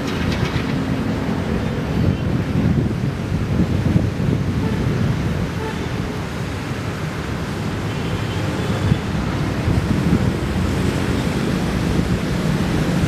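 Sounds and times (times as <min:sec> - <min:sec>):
wind buffeting microphone: 0:00.0 - 0:07.6, 0:08.4 - 0:13.0.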